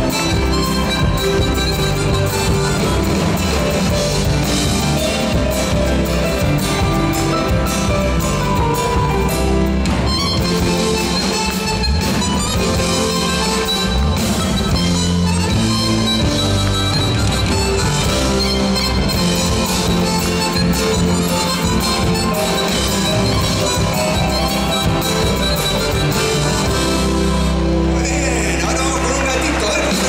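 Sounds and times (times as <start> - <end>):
live band playing folk dance tune: 0.0 - 30.0.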